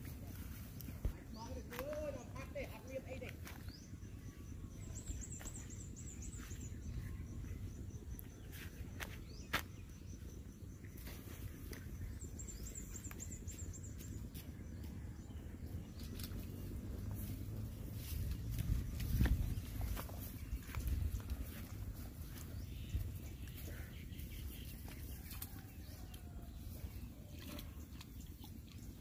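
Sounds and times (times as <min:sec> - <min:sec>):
wind rumble on microphone: 0:03.6 - 0:27.0.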